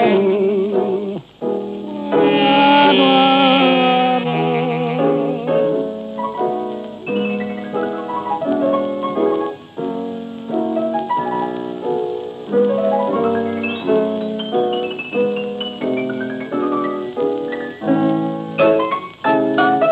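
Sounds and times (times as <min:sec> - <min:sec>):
piano broken chords: 0:00.0 - 0:19.9.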